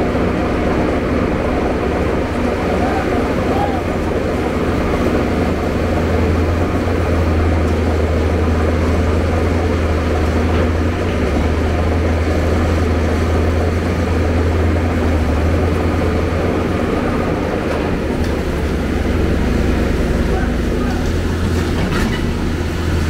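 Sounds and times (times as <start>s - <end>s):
excavator diesel engine droning: 0.0s - 23.0s.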